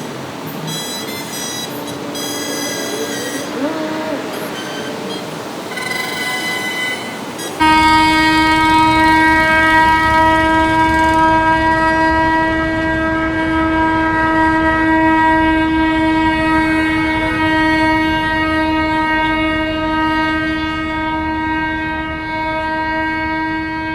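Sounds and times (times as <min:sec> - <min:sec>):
idling traffic rumble: 0:00.0 - 0:23.9
higher-pitched horn: 0:00.7 - 0:23.9
long vehicle horn blast: 0:00.7 - 0:23.9.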